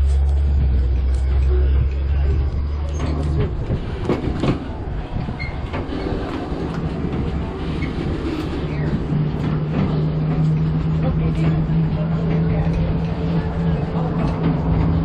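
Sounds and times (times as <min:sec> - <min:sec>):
low rumble: 0:00.0 - 0:15.0
tram cars rattling and knocking: 0:00.0 - 0:15.0.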